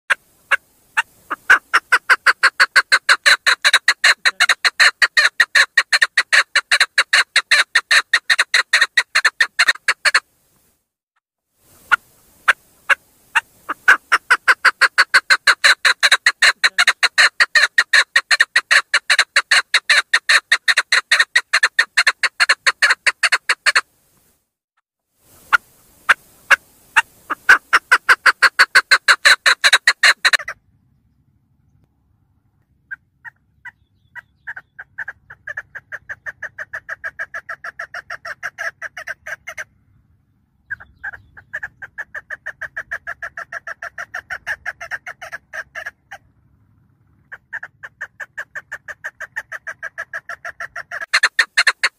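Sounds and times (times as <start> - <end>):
partridge calling: 0.4 - 10.2, 11.8 - 23.8, 25.4 - 30.6, 32.8 - 40.0, 40.6 - 46.2, 47.2 - 51.9.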